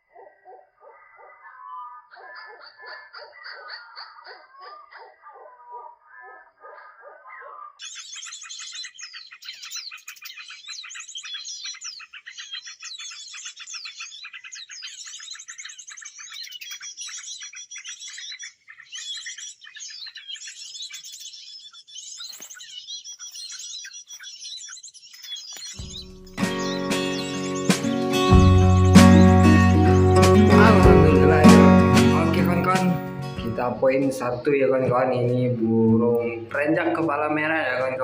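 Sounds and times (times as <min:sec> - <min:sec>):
songbirds chirping: 0:00.0 - 0:38.0.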